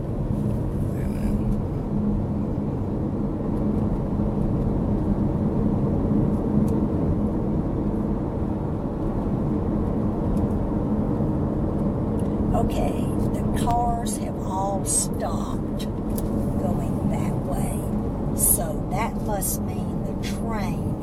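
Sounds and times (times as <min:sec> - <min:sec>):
car engine and road rumble: 0:00.0 - 0:21.0
faint constant hum: 0:00.0 - 0:21.0.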